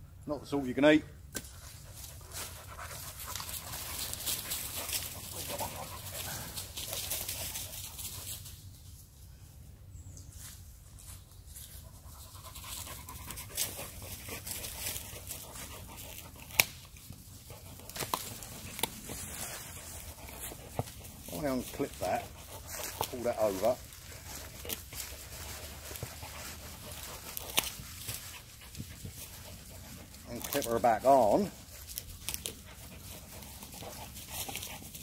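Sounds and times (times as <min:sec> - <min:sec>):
dog panting: 0:01.8 - 0:08.3, 0:11.8 - 0:16.6, 0:17.3 - 0:35.0.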